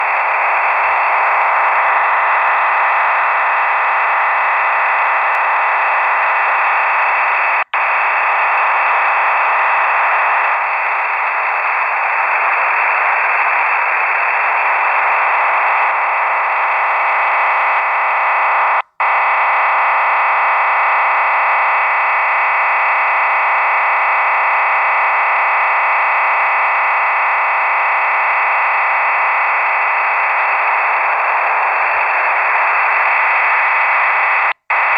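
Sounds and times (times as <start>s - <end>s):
radio hiss and buzz: 0.0s - 34.9s
steady radio tones: 0.0s - 34.9s.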